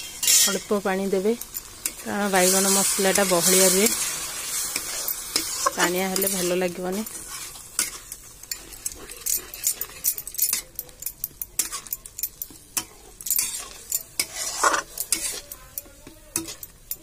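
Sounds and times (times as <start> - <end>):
metal spatula scraping pan: 0.0 - 10.8, 11.6 - 17.0
gravy sizzling and bubbling: 0.0 - 17.0.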